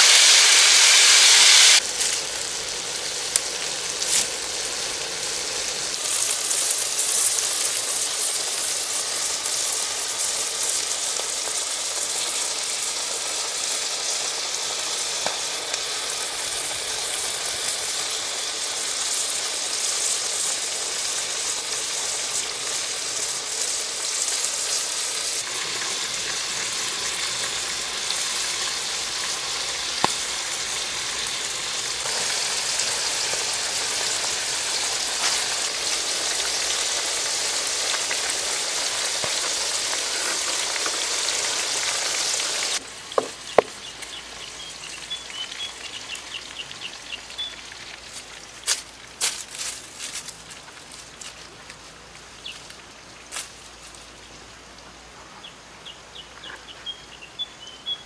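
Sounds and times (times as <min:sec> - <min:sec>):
larvae sizzling in oil: 0:00.0 - 0:51.3.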